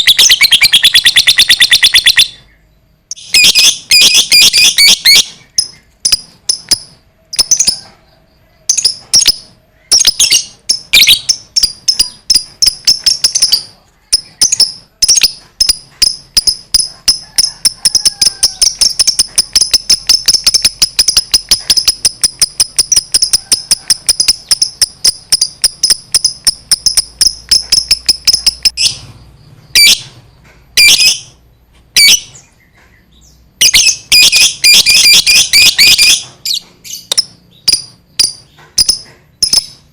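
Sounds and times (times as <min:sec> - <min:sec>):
lovebird shrill chatter: 0:00.0 - 0:02.5, 0:03.1 - 0:08.0, 0:08.7 - 0:29.0, 0:33.6 - 0:39.8.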